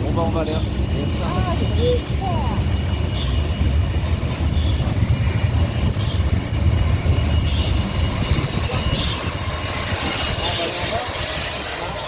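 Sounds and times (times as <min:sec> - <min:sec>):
soft rhythmic train beats: 0:00.0 - 0:12.0
train rumbling: 0:00.0 - 0:12.0.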